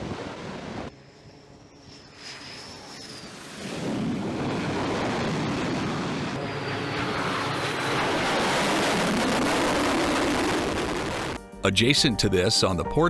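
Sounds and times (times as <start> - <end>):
jet engine rushing: 0.0 - 11.4.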